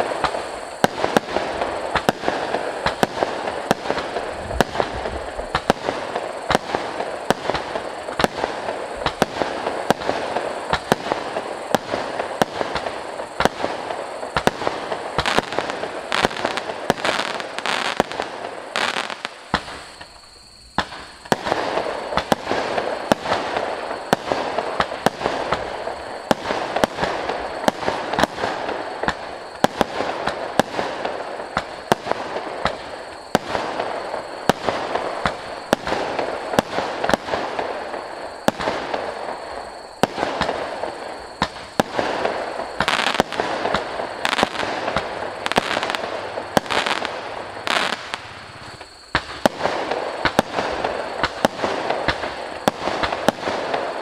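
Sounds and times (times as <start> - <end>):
fireworks crackle: 0.0 - 54.0
fireworks shots and bursts: 0.0 - 54.0.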